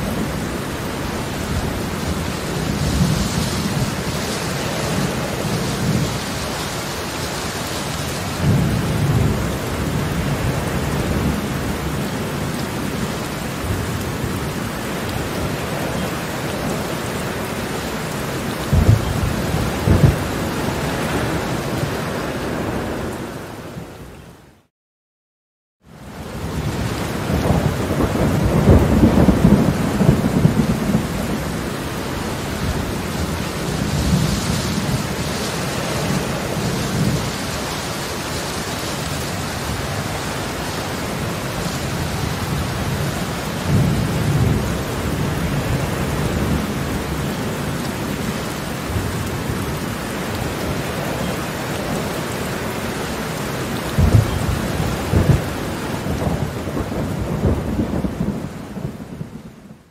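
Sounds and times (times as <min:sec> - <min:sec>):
heavy rain pouring: 0:00.0 - 0:24.7, 0:25.8 - 0:59.9.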